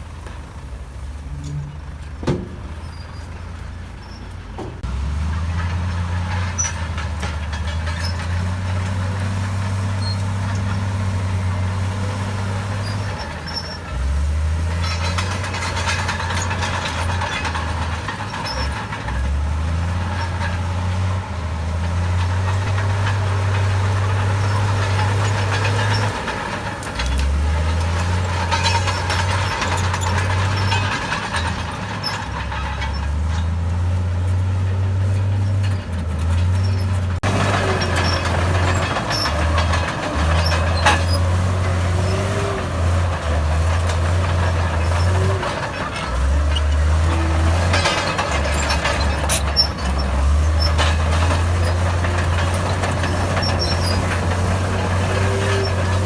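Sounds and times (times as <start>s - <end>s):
bulldozer diesel engine: 0.0s - 56.0s
clatter of tracks and blade: 4.2s - 56.0s.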